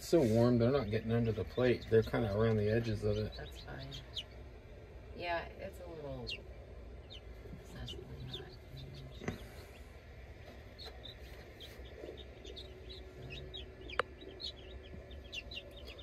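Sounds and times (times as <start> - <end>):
chicks peeping: 0.0 - 4.8, 5.7 - 16.0.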